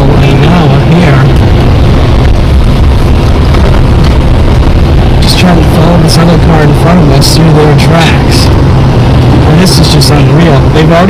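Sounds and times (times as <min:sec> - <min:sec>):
car cabin rumble on snow: 0:00.0 - 0:11.0.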